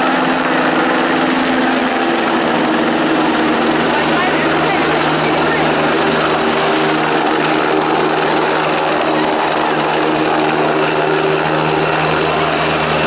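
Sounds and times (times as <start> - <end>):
helicopter rotor and engines: 0.0 - 13.0.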